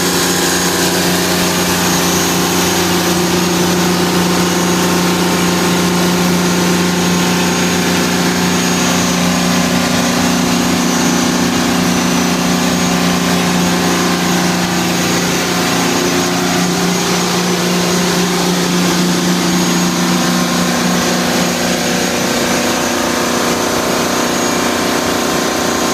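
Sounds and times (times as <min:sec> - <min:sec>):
generator engine drone: 0:00.0 - 0:25.9.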